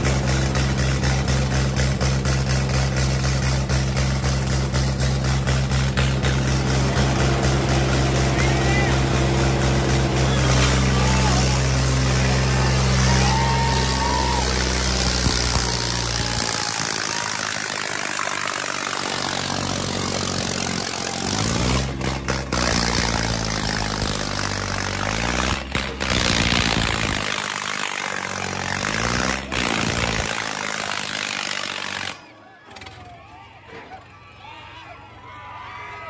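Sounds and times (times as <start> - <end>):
tractor engines labouring: 0.0 - 36.0
crowd shouting: 6.7 - 36.0.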